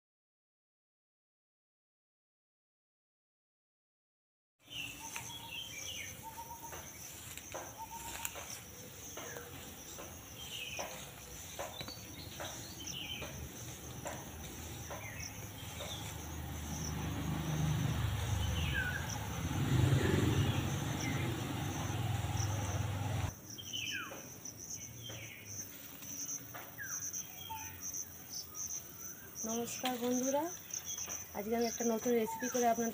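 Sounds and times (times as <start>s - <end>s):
high insect trill: 4.6s - 32.9s.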